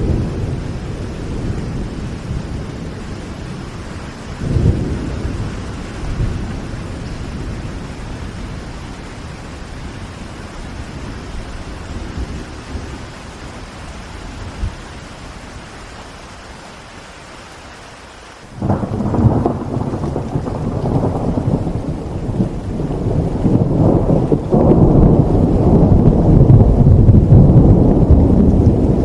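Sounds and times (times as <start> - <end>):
thunder clap and rumble: 0.0 - 15.6, 18.6 - 29.0
rain hiss: 0.0 - 29.0.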